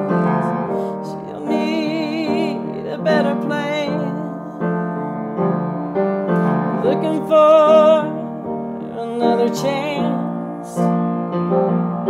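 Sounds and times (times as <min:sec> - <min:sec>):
slow ballad on keyboard: 0:00.0 - 0:12.0.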